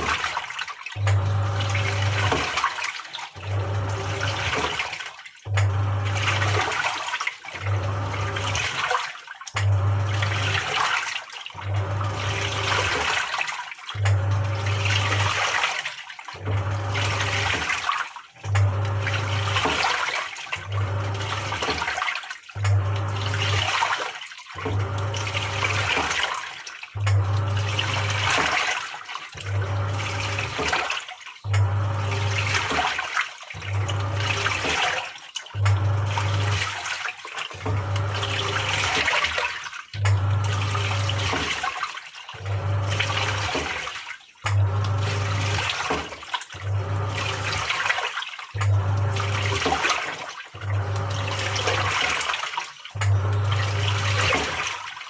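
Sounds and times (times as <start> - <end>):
washing machine motor humming: 0.0 - 55.0
water sloshing and churning: 0.0 - 55.0.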